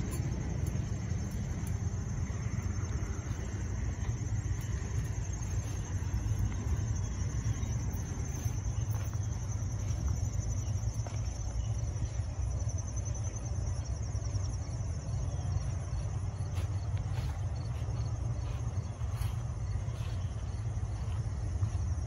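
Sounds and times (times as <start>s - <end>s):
crickets chirping: 0.0s - 22.0s
steady low rumble: 0.0s - 22.0s.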